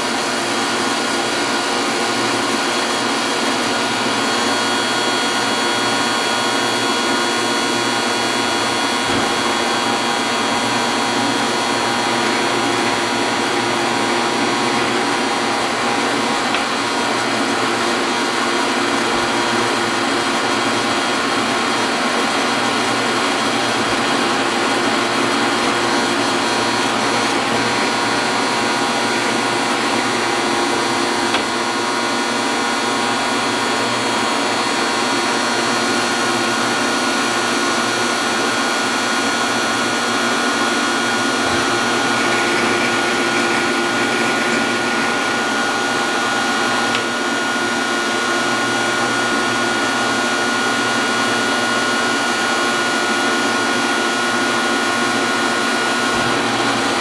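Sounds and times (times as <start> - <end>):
metal lathe whining: 0.0 - 57.0.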